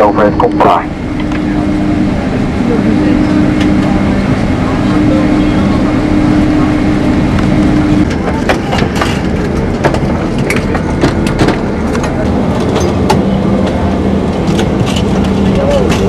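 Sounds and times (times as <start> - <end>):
aircraft engines rumbling: 0.0 - 16.0
steady hum: 0.0 - 16.0.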